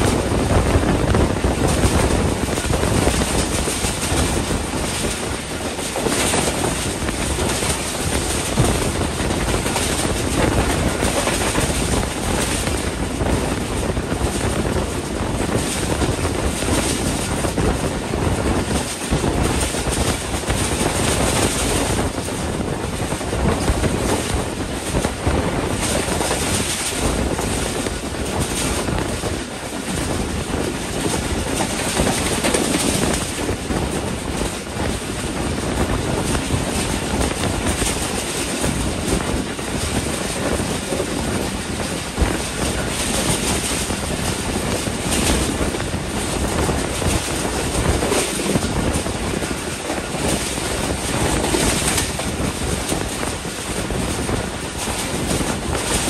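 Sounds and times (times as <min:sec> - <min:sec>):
train wheels rumbling on rails: 0:00.0 - 0:56.0
wind rushing on microphone: 0:00.0 - 0:56.0.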